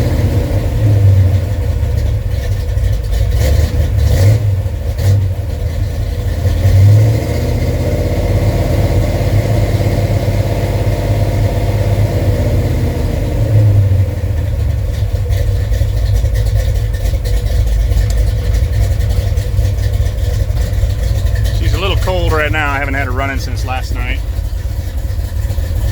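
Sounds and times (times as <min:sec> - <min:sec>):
engine idling and blipping: 0:00.0 - 0:07.0, 0:07.7 - 0:25.9.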